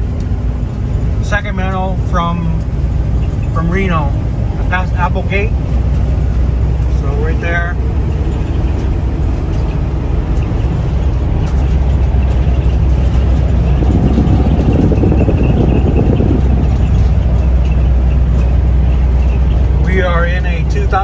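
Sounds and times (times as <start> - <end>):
road and engine rumble in cab: 0.0 - 21.0.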